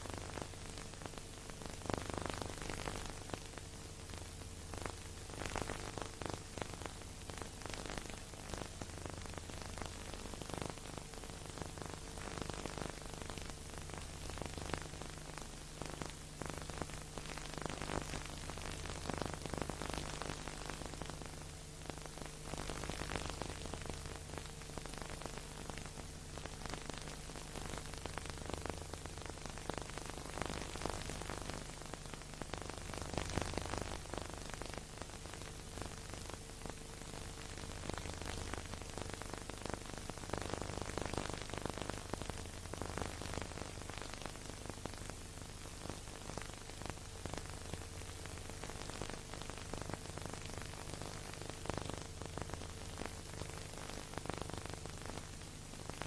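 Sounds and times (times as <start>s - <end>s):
crackles and pops: 0.0s - 56.0s.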